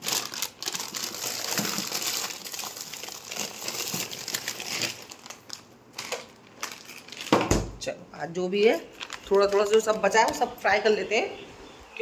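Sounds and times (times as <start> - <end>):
food packets crinkling: 0.0 - 7.5, 8.5 - 10.7.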